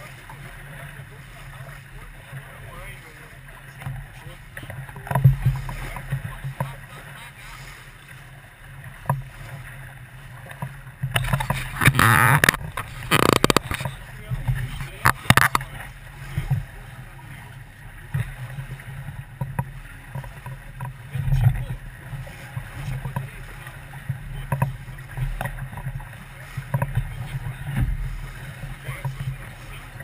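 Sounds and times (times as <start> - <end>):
knocks and clicks from boat: 0.0 - 30.0
water rushing against hull: 0.0 - 30.0.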